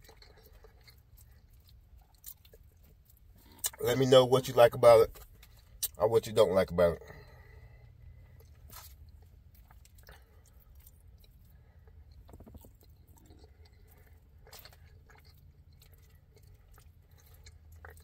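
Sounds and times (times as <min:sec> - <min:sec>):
faint chewing with soft clicks: 0:00.0 - 0:18.0.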